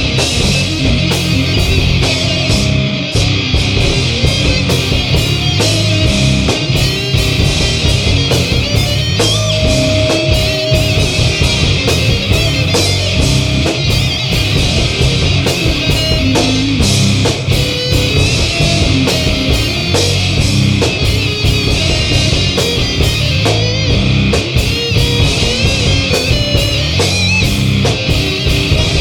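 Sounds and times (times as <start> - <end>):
bass: 0.0 - 29.0
drum beat: 0.0 - 29.0
electric guitar riffing: 0.0 - 29.0.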